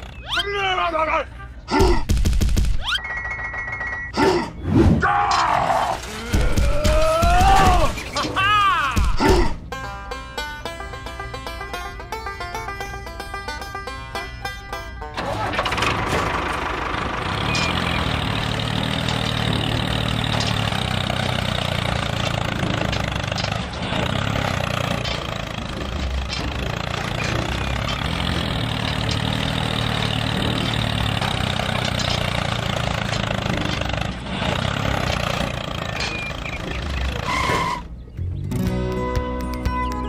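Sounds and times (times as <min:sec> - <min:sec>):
tractor engine idling: 0:05.9 - 0:39.0.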